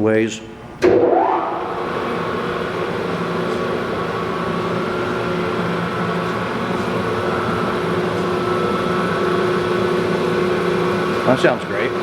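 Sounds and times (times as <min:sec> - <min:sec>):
lathe humming and whining: 0:00.8 - 0:12.0.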